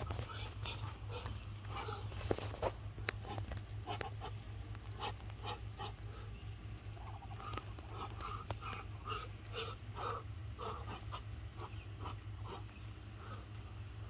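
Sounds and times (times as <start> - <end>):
hens and ducks calling: 0.0 - 14.0
steady low hum: 0.0 - 14.0.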